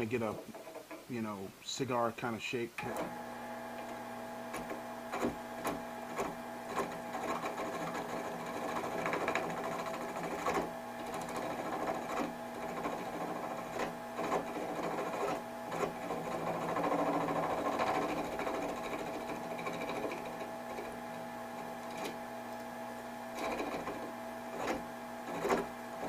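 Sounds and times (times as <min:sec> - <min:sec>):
blade scraping spinning wood: 0:00.0 - 0:01.1, 0:03.7 - 0:26.0
wood lathe motor humming: 0:02.8 - 0:26.0.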